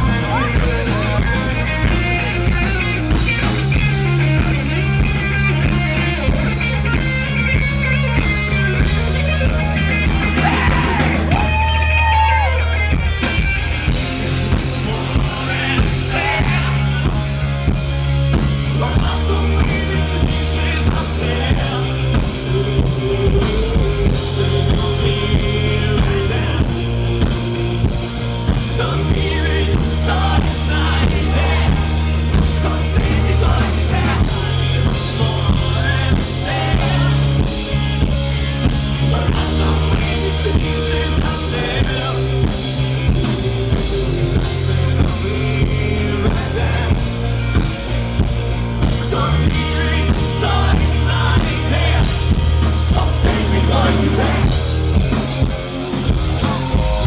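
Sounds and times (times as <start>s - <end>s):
lead singer singing: 0.0s - 7.0s, 8.2s - 57.0s
live rock band playing: 0.0s - 57.0s.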